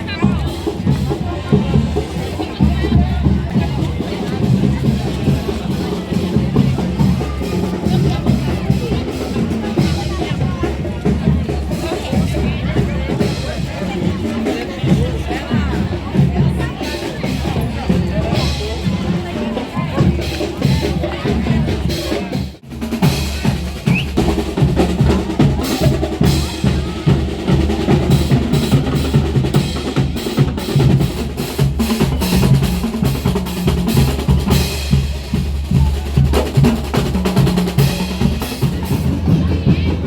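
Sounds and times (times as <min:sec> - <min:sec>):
marching band drums: 0:00.0 - 0:40.0.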